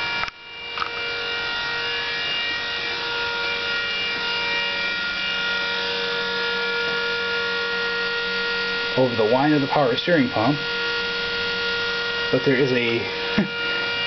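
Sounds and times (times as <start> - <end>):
power steering pump whining: 0.0 - 14.0.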